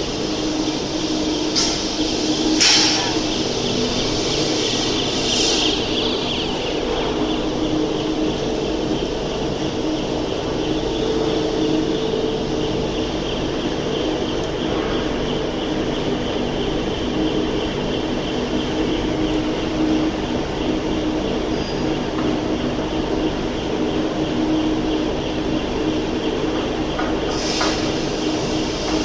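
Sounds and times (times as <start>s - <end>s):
factory machinery drone: 0.0s - 29.0s.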